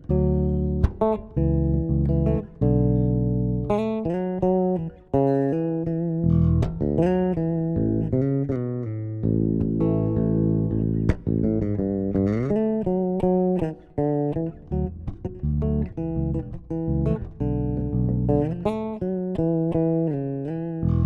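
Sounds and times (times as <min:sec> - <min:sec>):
bass guitar melody: 0:00.0 - 0:21.0.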